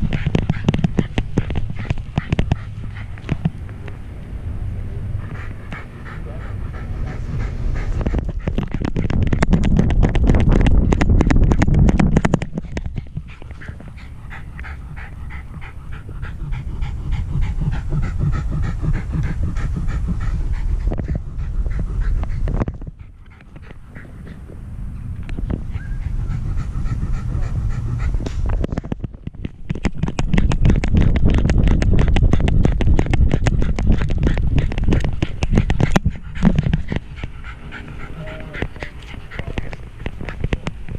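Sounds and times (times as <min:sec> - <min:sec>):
knocks and low rumbling: 0:00.0 - 0:04.0, 0:06.6 - 0:40.9
dog panting: 0:00.0 - 0:04.3, 0:04.9 - 0:40.9.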